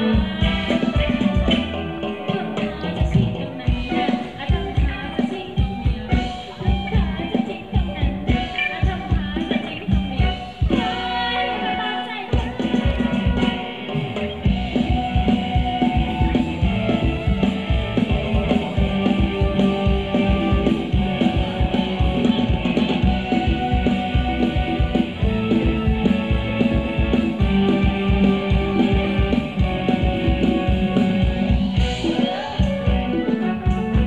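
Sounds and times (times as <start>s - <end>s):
fast drum beat: 0.0s - 34.0s
live band playing dance music: 0.0s - 34.0s.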